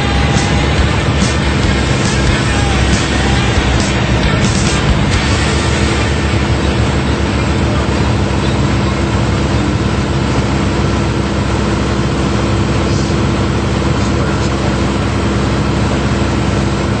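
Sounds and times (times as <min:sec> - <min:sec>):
propeller airplane engine droning: 0:00.0 - 0:17.0.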